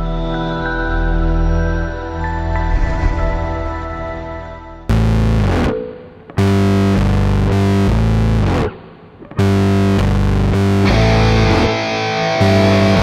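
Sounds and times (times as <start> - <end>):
distorted electric guitar riff: 2.2 - 13.0.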